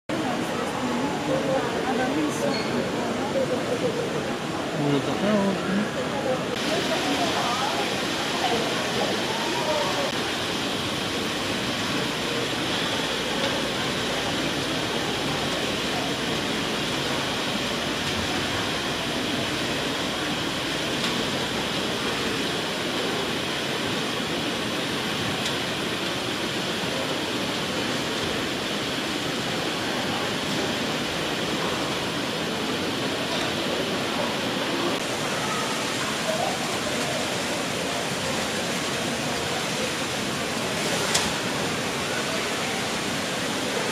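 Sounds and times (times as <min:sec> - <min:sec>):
din of crowded hall: 0:00.1 - 0:43.9
faint voices: 0:00.1 - 0:43.9.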